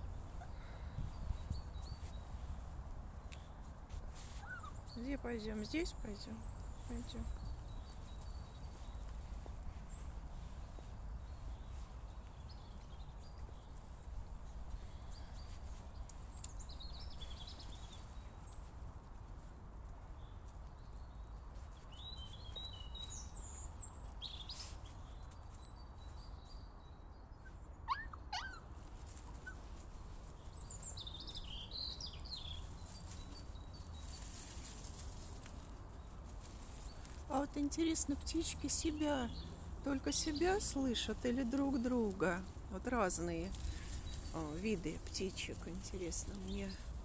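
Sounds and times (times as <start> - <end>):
small birds chirping: 0.0 - 18.8, 20.1 - 26.7, 27.4 - 47.0.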